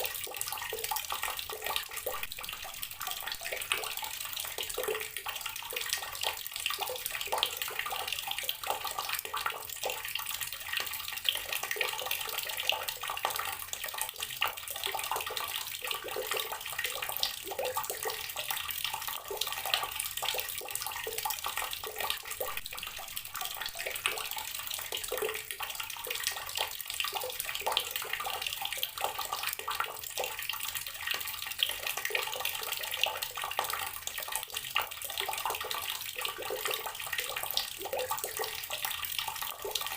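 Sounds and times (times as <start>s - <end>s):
tap water pouring into container: 0.0s - 39.9s.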